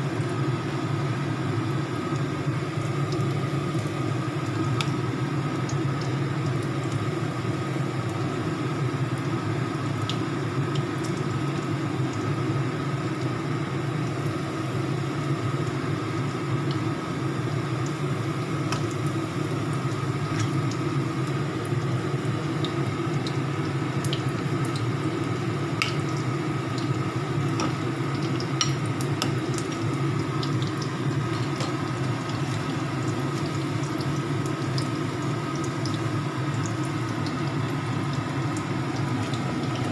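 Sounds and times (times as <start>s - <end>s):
low steady hum: 0.0s - 39.9s
shrimp sizzling in hot oil: 0.0s - 39.9s.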